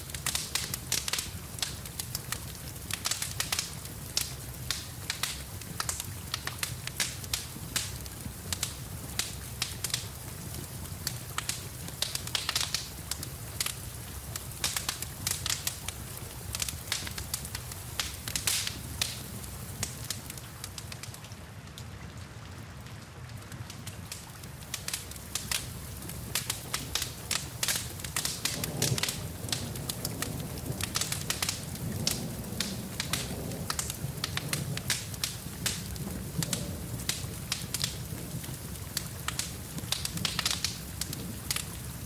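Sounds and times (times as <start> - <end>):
rain: 0.0 - 42.0
wood fire crackling: 0.0 - 42.0.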